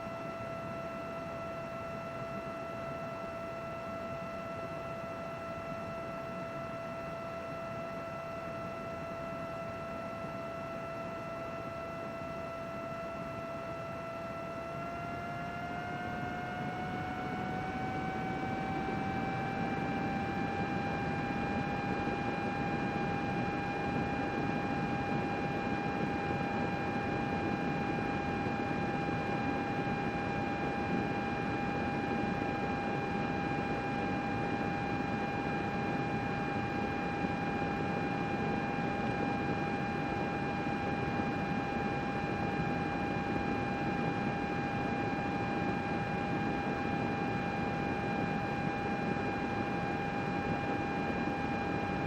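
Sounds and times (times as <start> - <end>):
computer fan whirring: 0.0 - 52.0.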